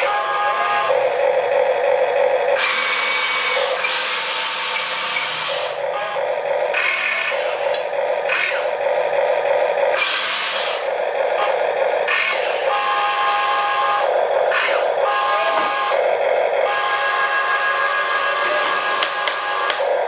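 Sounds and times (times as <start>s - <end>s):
electric motors whirring: 0.0s - 20.0s
steady hum: 0.0s - 20.0s.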